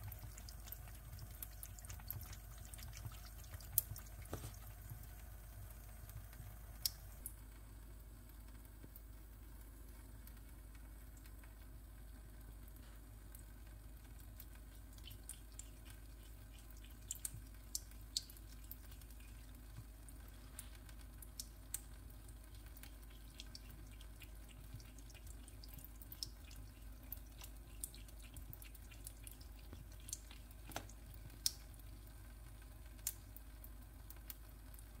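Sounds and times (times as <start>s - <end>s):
cat drinking drips and splashes: 0.0s - 7.4s, 10.1s - 35.0s.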